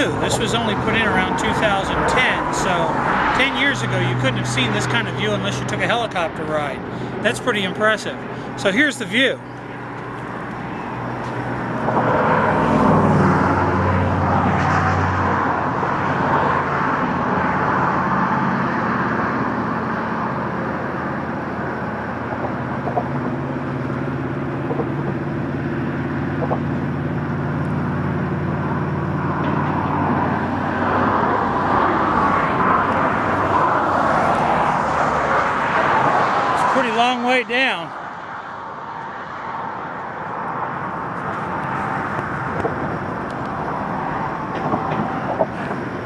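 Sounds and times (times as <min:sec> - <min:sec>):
heavy vehicle engine hum: 0:00.0 - 0:46.0
highway traffic passing: 0:00.0 - 0:46.0.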